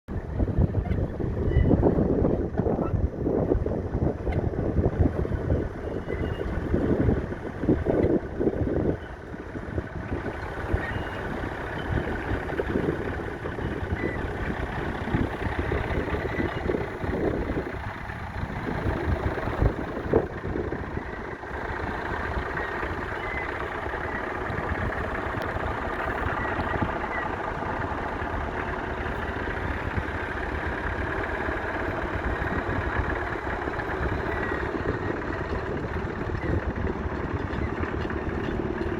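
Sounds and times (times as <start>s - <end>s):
diesel engine running: 0.1s - 38.9s
wind buffeting microphone: 0.1s - 38.9s.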